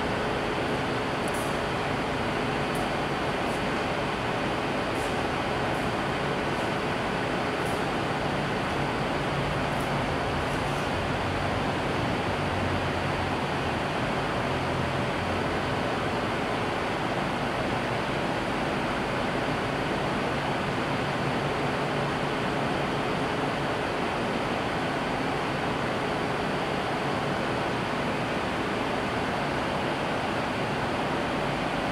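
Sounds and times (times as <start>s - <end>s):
cooling fans rushing air: 0.0s - 31.9s.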